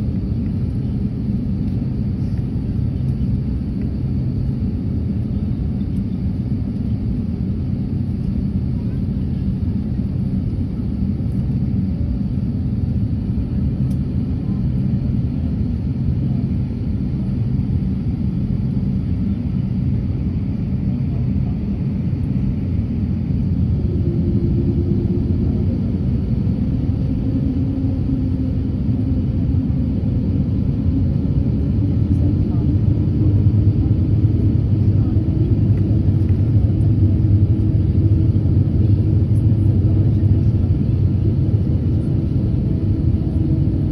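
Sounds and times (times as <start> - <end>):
faint hum: 0.0 - 43.9
low rumble of aircraft engines: 0.0 - 43.9.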